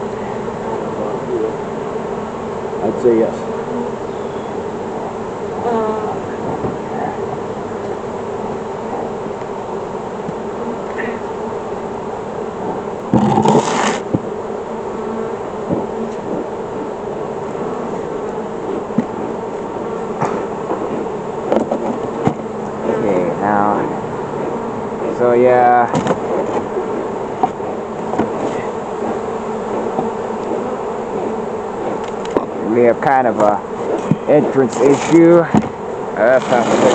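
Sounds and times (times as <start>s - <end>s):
honeybees buzzing: 0.0s - 36.9s.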